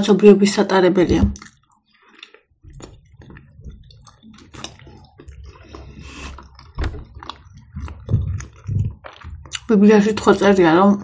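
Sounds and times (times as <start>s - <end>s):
wet mouth chewing: 1.4s - 10.6s.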